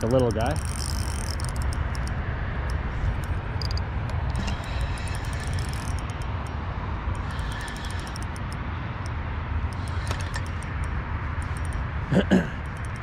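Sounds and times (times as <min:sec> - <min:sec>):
spinning reel cranking: 0:00.0 - 0:06.5, 0:07.1 - 0:11.8, 0:12.6 - 0:13.0
light clicks: 0:00.0 - 0:11.8, 0:12.6 - 0:13.0
wind rumble on microphone: 0:00.0 - 0:13.0.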